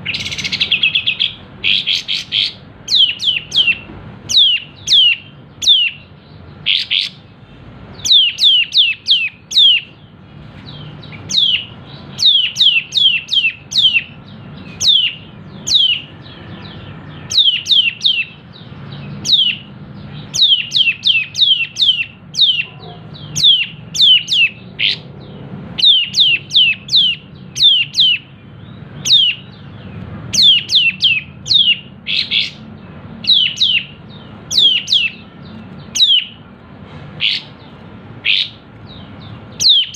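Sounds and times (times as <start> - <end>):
songbird singing rapid falling notes: 0.0 - 39.9.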